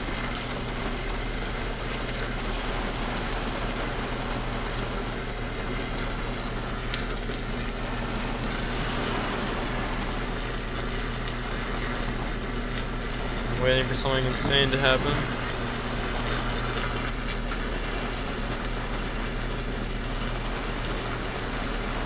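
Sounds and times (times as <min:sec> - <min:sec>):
power line arcing hum and hiss: 0:00.0 - 0:22.0.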